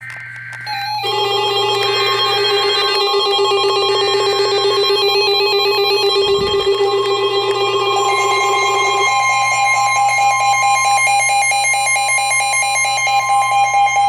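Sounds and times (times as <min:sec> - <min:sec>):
high two-pitch data tones: 0:00.0 - 0:14.0
pulsing electronic alert tone: 0:00.7 - 0:13.6.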